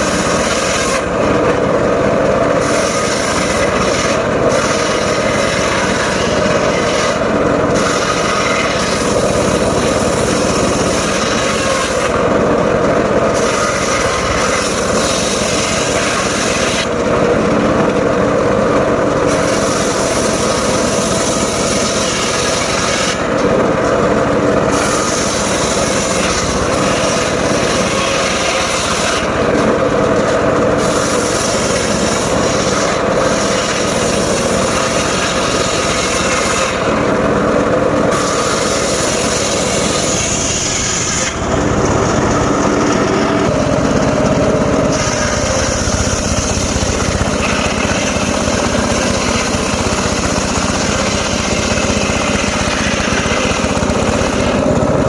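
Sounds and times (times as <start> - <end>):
circular sawmill engine running: 0.0 - 55.0
saw blade cutting logs: 0.0 - 55.0.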